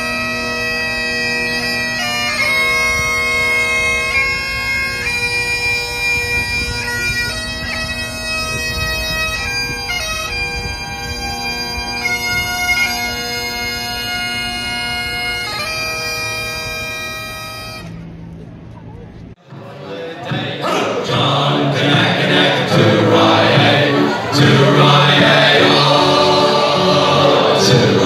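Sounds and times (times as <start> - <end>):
bagpipes playing: 0.0 - 18.0, 21.3 - 28.0.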